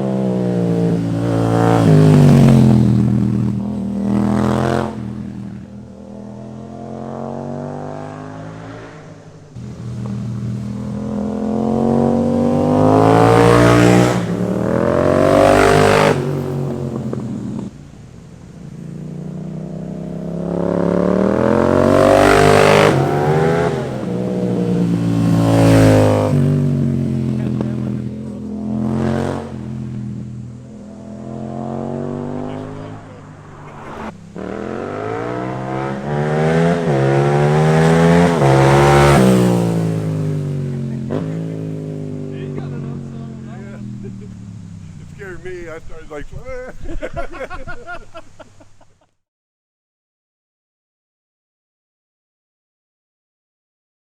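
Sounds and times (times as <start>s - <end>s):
motorcycle engine accelerating hard: 0.0s - 47.1s.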